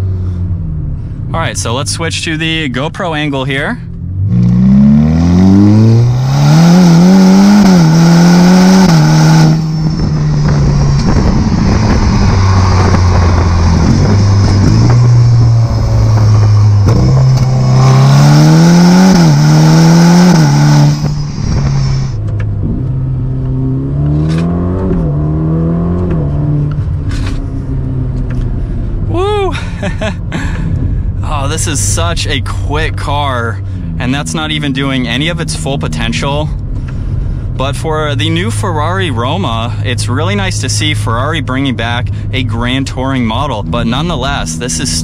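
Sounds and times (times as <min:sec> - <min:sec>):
car engine accelerating hard: 0:03.9 - 0:45.0.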